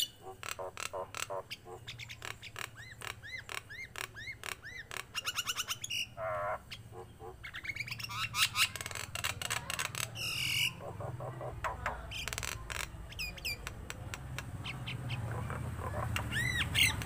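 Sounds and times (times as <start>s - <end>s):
myna bird calling: 0.0s - 17.0s.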